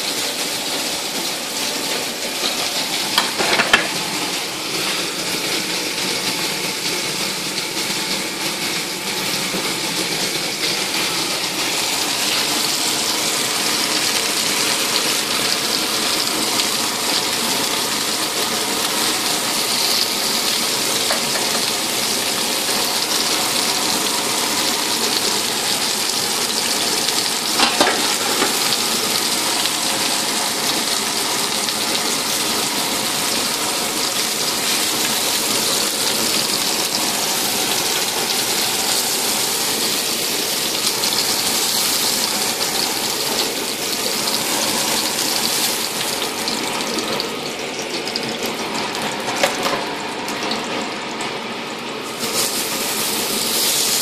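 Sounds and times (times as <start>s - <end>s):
skewers sizzling in hot oil: 0.0s - 54.0s.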